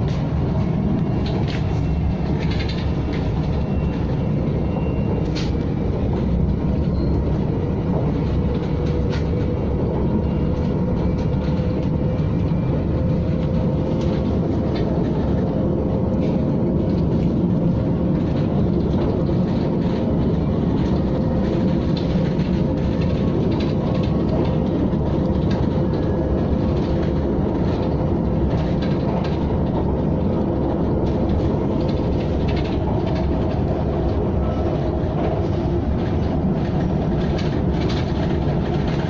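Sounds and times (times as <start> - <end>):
electric train rolling rumble: 0.0 - 39.0.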